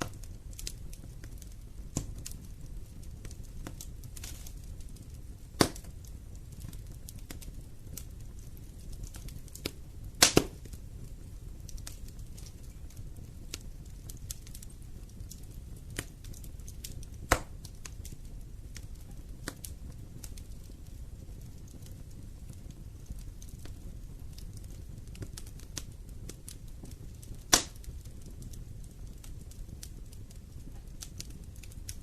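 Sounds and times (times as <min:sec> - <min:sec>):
fire pops: 0:00.0 - 0:32.0
low rumble of flames: 0:00.0 - 0:32.0
wood fire crackling: 0:00.0 - 0:32.0.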